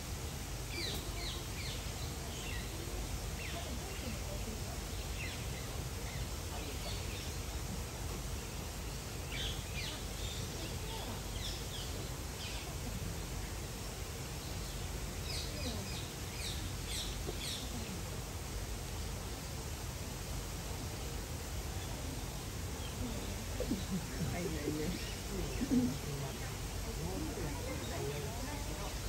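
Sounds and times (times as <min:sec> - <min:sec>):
outdoor background noise: 0:00.0 - 0:29.0
small birds chirping: 0:00.2 - 0:29.0.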